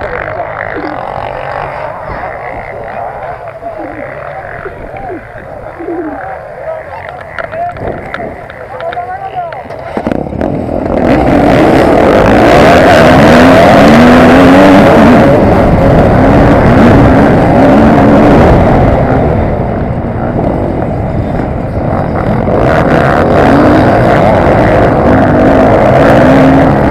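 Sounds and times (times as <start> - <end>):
motorcycle engine revving hard: 0.0 - 8.7, 9.8 - 26.9
other dirt bikes: 0.0 - 26.9.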